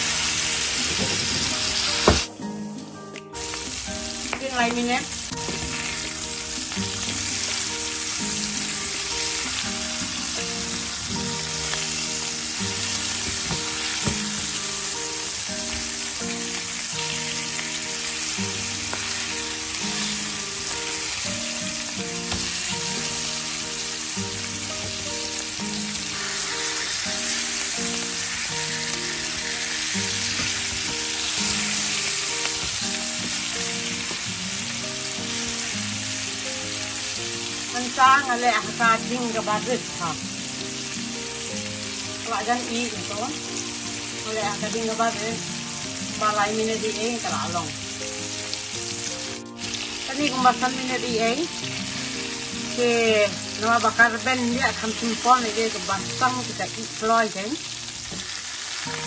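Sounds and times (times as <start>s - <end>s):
background music with low notes: 0.0s - 59.0s
fish sizzling in hot oil: 0.0s - 59.0s.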